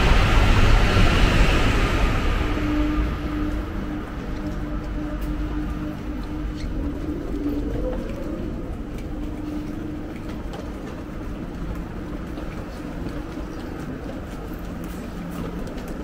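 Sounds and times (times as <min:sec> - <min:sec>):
train low hum: 0:00.0 - 0:16.0.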